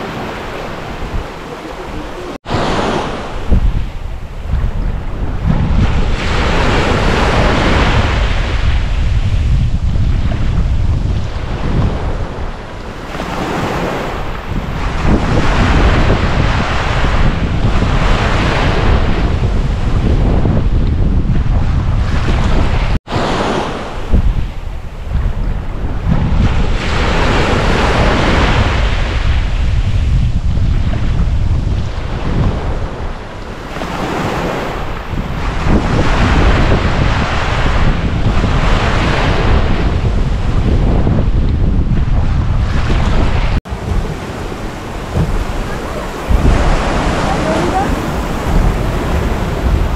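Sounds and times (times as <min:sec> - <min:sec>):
ocean surf breaking: 0:00.0 - 0:20.7, 0:21.4 - 0:49.9
wind buffeting microphone: 0:00.0 - 0:49.9.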